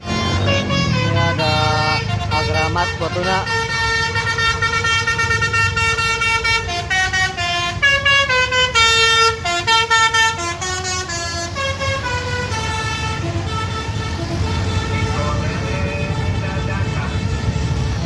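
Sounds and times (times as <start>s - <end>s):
bus horn playing a tune: 0.0s - 18.0s
low rumble of traffic: 0.0s - 18.0s.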